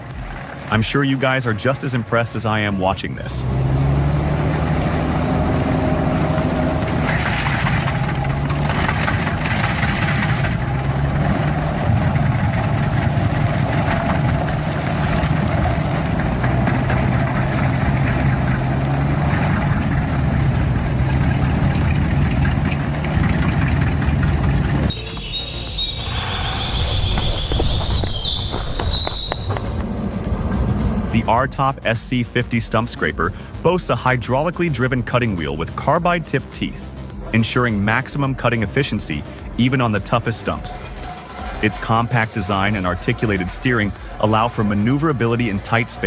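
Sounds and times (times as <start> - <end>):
stump grinder engine running: 0.0 - 26.8, 27.7 - 32.2, 32.8 - 46.0
cutting wheel grinding wood: 0.0 - 46.0.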